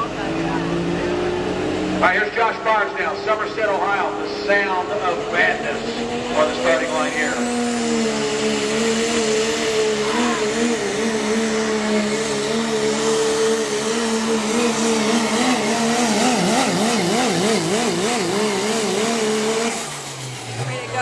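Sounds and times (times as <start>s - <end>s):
diesel truck engine high-revving: 0.0s - 21.0s.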